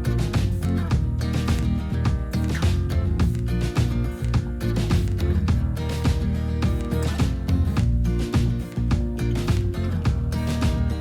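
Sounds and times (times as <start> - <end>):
plucked string music with beat: 0.0 - 11.0.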